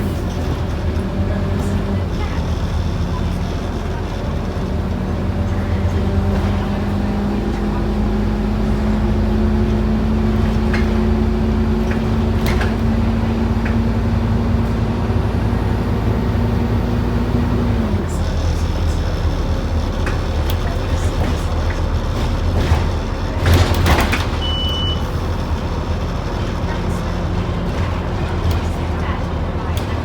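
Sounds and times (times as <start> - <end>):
bus body rattling: 0.0 - 30.0
bus diesel engine pulling: 0.0 - 30.0.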